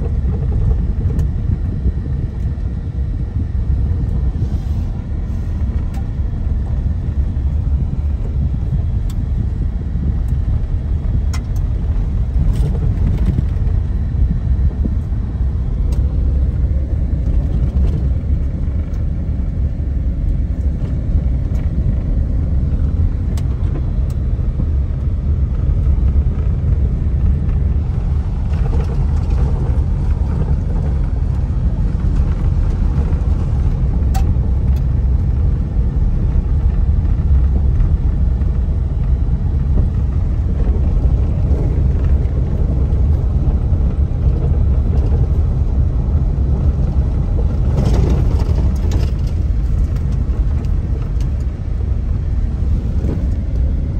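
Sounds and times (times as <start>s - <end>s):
car rumbling on gravel: 0.0s - 53.9s.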